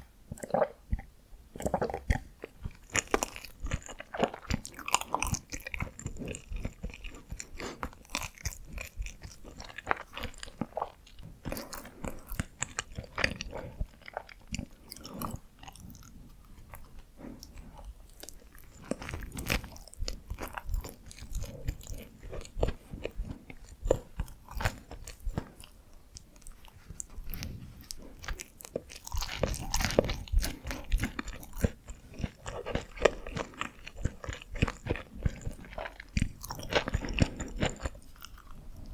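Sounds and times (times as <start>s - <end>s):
close chewing and wet mouth clicks: 0.0s - 38.9s.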